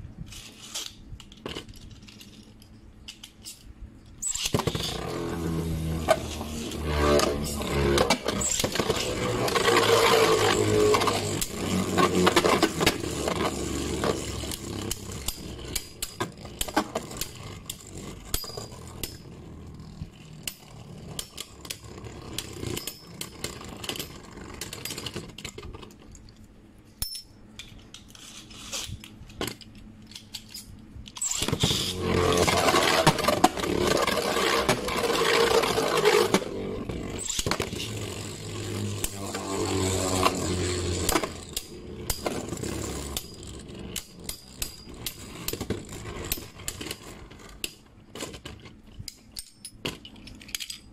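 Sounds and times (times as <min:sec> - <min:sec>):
spinning tops whirring and scraping: 0:00.2 - 0:26.2, 0:27.8 - 0:50.9.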